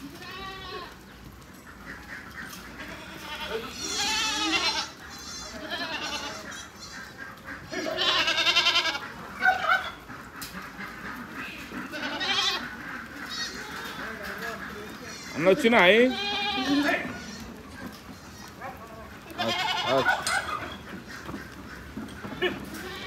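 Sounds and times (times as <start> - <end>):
goats bleating: 0.0 - 1.1, 1.9 - 21.4, 22.2 - 23.0.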